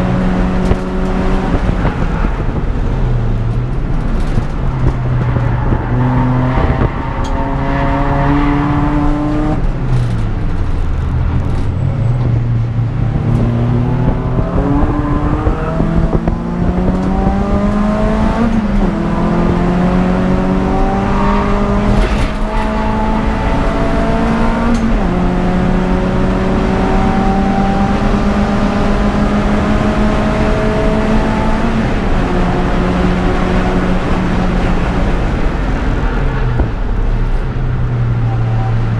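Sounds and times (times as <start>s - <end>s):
car engine racing: 0.0s - 38.9s.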